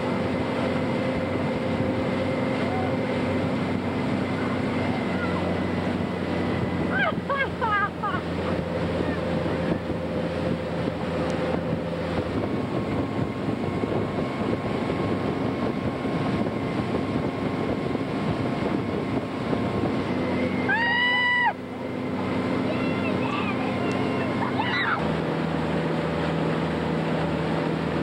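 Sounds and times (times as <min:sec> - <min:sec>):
motorboat engine running: 0:00.0 - 0:28.0
rush of boat wake: 0:00.0 - 0:28.0
wind buffeting microphone: 0:00.0 - 0:28.0.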